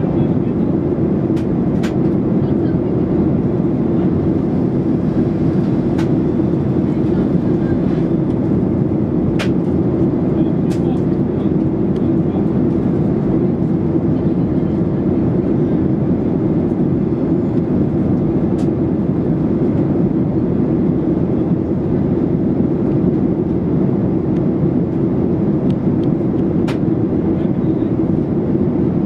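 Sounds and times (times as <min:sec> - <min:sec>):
jet engine and airflow drone: 0:00.0 - 0:29.0.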